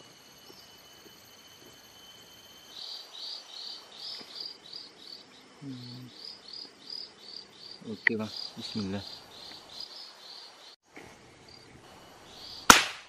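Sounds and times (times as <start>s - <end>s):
high-pitched insect drone: 0.0s - 10.8s, 11.5s - 12.7s
insect chirping: 0.0s - 13.0s.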